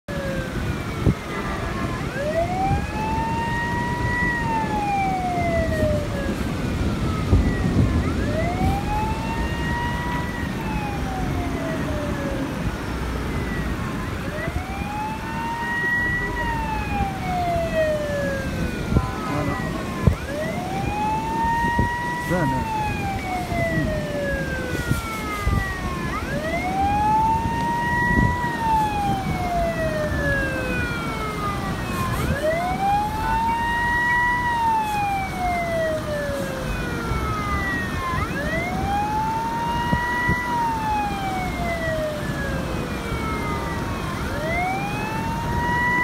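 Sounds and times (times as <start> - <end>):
siren wailing: 0.1 - 46.0.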